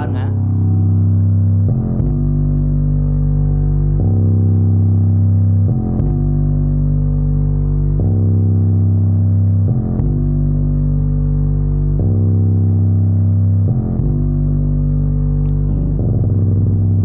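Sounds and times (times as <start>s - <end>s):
music with deep bass notes: 0.0s - 17.0s.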